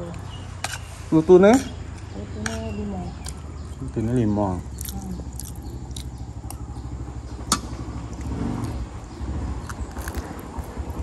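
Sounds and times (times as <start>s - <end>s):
engine pulsing rumble: 0.0s - 11.0s.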